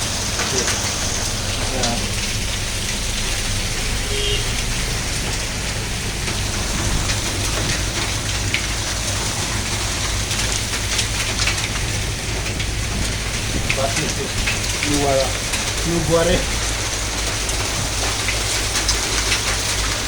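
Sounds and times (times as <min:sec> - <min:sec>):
heavy rain hiss: 0:00.0 - 0:20.0
sharp raindrop hits: 0:00.0 - 0:20.0.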